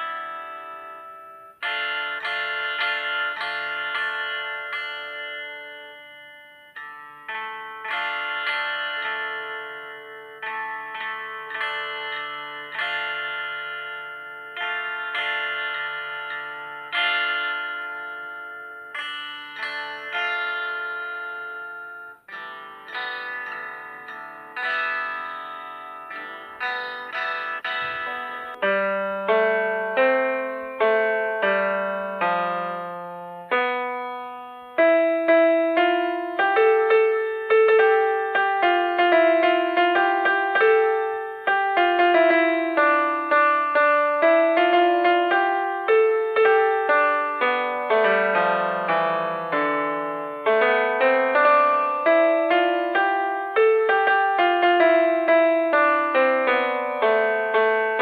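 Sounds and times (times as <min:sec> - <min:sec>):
piano melody: 0:00.0 - 0:58.0.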